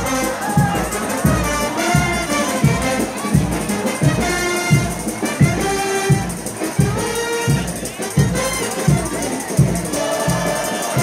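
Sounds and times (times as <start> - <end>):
bass drum beat: 0.0 - 11.0
brass band playing: 0.0 - 11.0.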